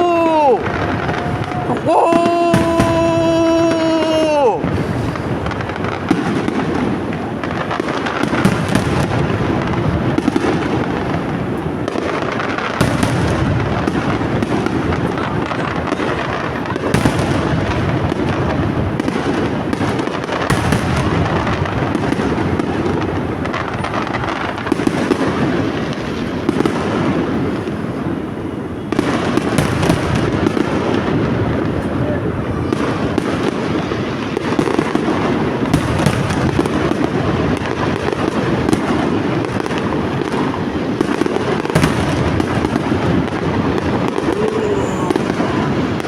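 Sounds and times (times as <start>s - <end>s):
fireworks crackle and rumble: 0.0s - 46.0s
sharp fireworks bangs: 0.0s - 46.0s.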